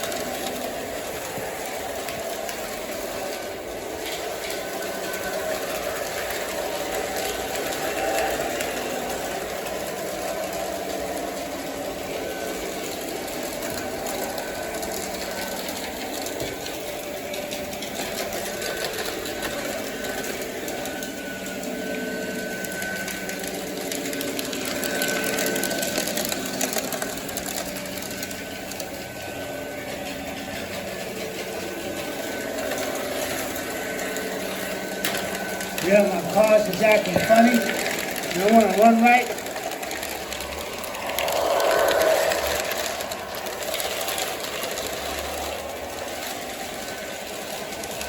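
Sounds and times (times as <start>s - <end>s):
model train motor humming: 0.0s - 48.0s.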